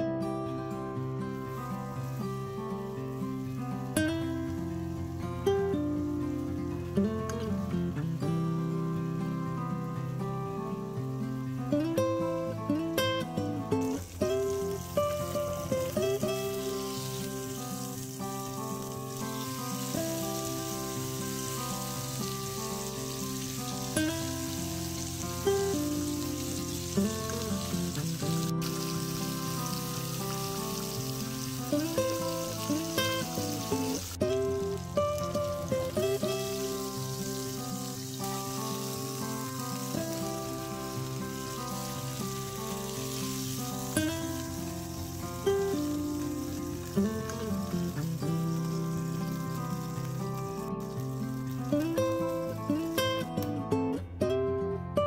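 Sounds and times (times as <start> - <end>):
slow background music: 0.0 - 55.0
steak sizzling in a pan: 0.7 - 53.9.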